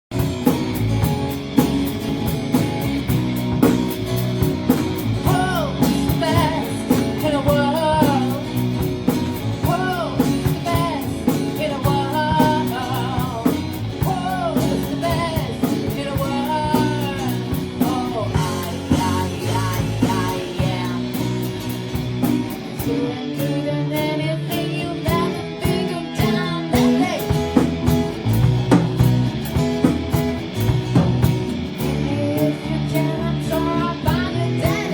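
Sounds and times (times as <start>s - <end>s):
blues-rock band playing: 0.1s - 34.9s.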